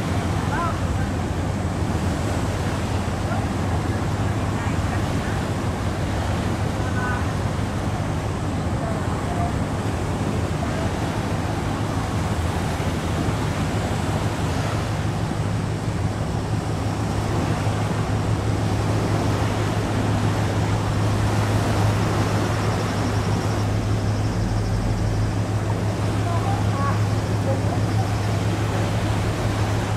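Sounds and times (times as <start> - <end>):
boat engine humming: 0.0 - 29.9
water noise: 0.0 - 29.9
wind: 0.0 - 29.9.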